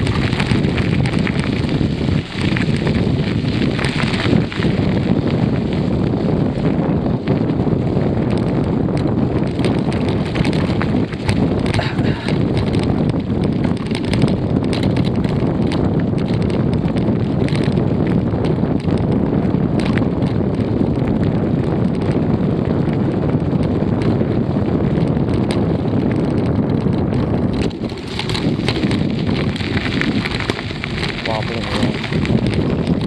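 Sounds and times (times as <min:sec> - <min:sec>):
bicycle ticks and rattles: 0:00.0 - 0:33.0
wind buffeting microphone: 0:00.0 - 0:33.0.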